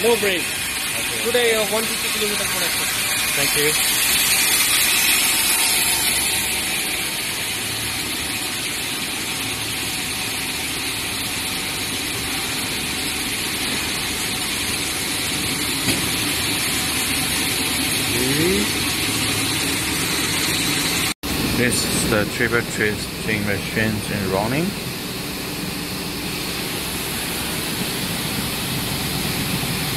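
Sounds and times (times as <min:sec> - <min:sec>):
machinery running with hiss: 0:00.0 - 0:29.9.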